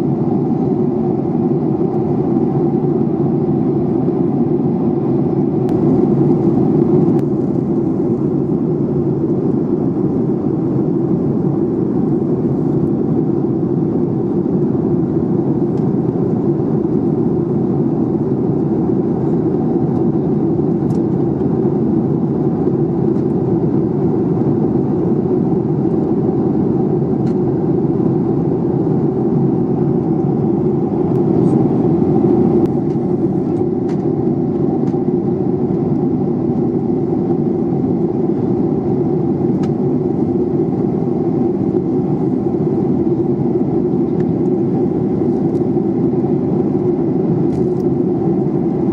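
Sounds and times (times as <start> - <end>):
jet engine and airflow rush: 0.0 - 48.9.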